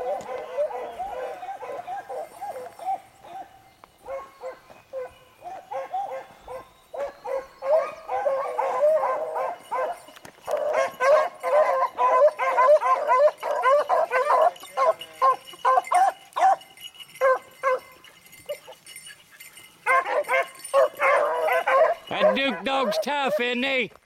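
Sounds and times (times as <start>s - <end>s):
pack of hounds baying: 0.0s - 23.6s.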